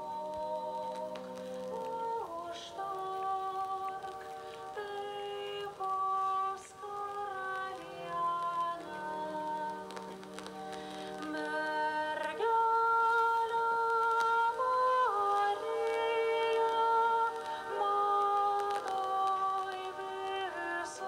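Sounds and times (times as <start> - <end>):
slow calm music: 0.0 - 21.0.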